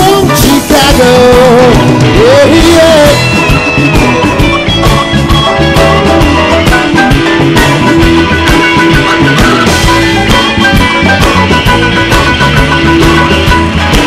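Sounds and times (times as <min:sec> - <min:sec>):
band playing instrumental blues: 0:00.0 - 0:14.0
drum kit beat: 0:00.0 - 0:14.0
guitars: 0:00.0 - 0:14.0.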